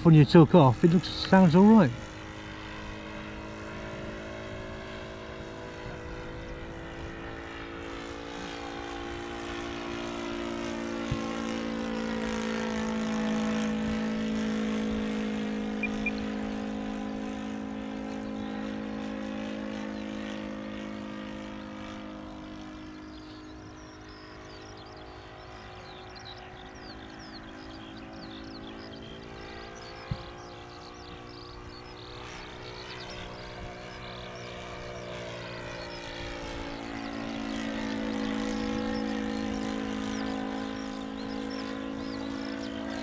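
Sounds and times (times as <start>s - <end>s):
model airplane engine in flight: 0.0s - 43.0s.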